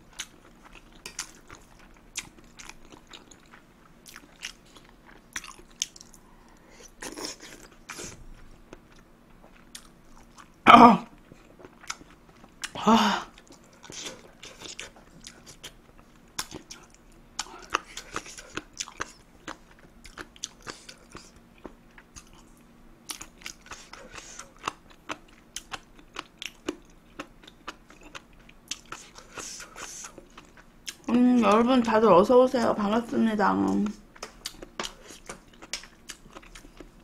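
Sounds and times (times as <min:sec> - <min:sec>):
person chewing crunchy food: 0:00.0 - 0:10.6, 0:11.2 - 0:31.6, 0:33.6 - 0:37.0.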